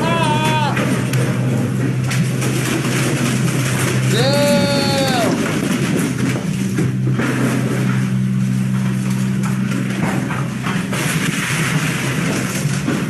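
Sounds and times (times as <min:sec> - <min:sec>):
excavator engine humming: 0:00.0 - 0:13.0.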